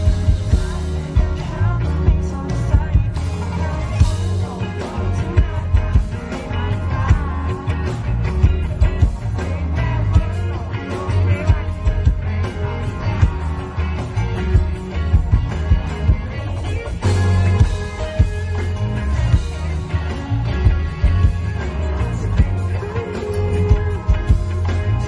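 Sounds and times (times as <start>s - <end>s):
person singing: 0.0s - 25.0s
rock band playing: 0.0s - 25.0s.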